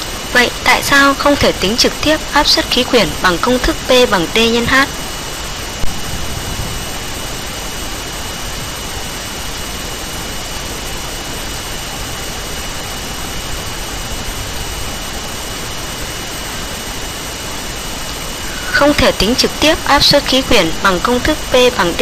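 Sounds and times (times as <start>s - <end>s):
faint high whine: 0.0s - 22.0s
recording hiss: 0.0s - 22.0s.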